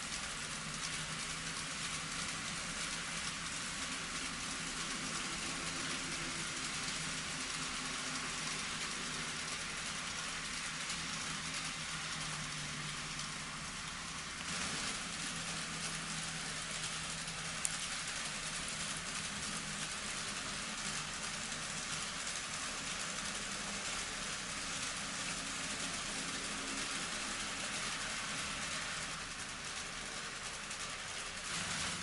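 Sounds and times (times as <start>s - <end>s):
faint model locomotive motor hum: 0.0s - 32.0s
small wheels rolling on rail: 0.0s - 32.0s.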